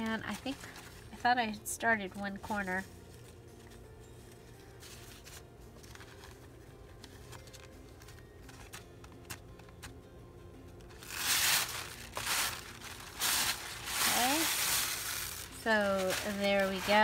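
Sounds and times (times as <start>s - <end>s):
paper napkin rustling: 0.0s - 1.6s, 2.4s - 9.8s, 10.8s - 17.0s.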